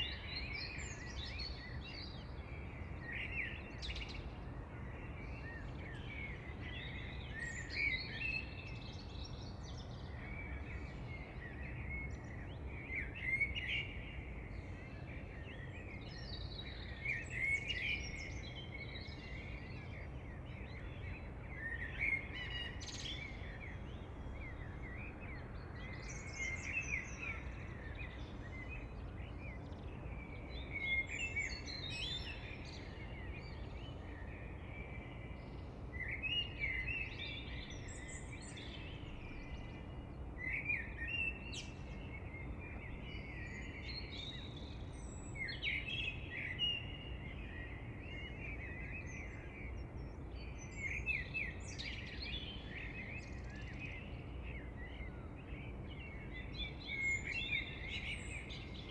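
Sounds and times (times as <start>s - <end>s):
low background hiss: 0.0s - 58.9s
songbirds singing: 0.0s - 58.9s.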